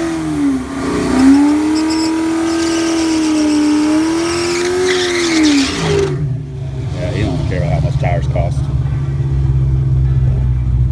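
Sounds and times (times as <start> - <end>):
tires spinning: 0.0 - 9.6
car engine at high revs: 0.0 - 10.6.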